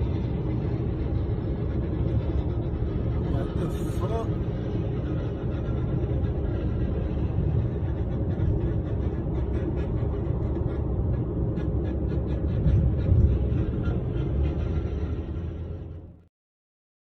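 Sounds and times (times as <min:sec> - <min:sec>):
vehicle road and engine rumble: 0:00.0 - 0:16.3.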